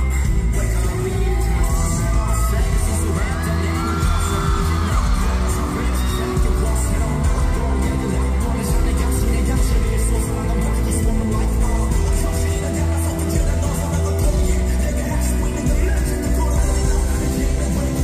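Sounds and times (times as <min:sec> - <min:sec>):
heavy bass beat: 0:00.0 - 0:18.0
live band music over pa: 0:00.0 - 0:18.0.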